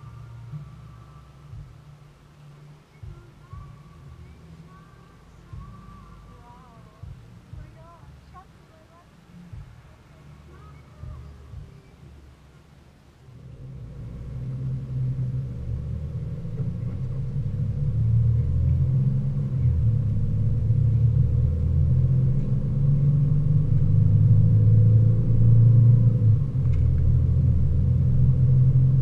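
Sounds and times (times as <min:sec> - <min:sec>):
car engine: 0:00.0 - 0:29.0
road rumble inside car: 0:00.0 - 0:29.0.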